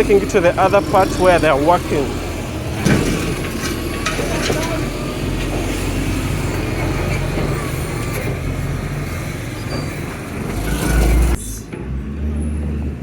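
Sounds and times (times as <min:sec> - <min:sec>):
construction vehicles: 0:00.0 - 0:13.0
road traffic: 0:00.0 - 0:13.0.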